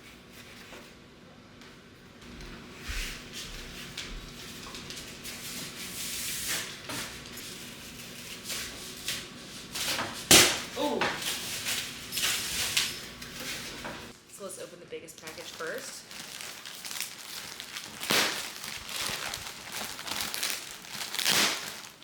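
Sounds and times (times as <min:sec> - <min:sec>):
packaging rustling and scraping: 0:03.0 - 0:14.2, 0:15.2 - 0:22.0.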